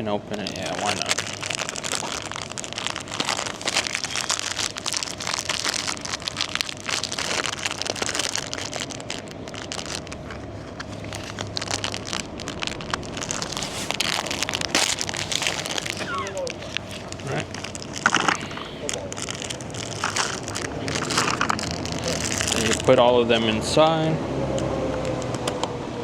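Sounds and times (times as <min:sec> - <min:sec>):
plastic packaging crinkling: 0:00.3 - 0:23.6.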